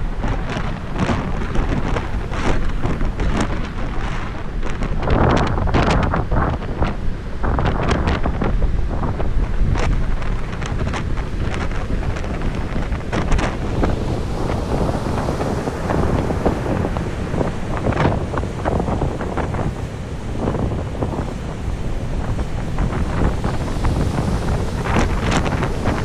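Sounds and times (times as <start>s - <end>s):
rough sea washing: 0.0s - 26.0s
wind buffeting microphone: 0.0s - 26.0s.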